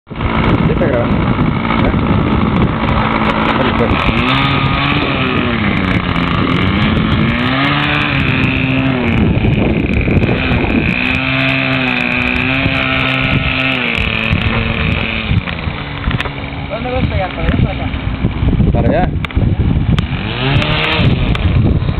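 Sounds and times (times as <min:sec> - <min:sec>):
model airplane engine running: 0:00.1 - 0:21.9.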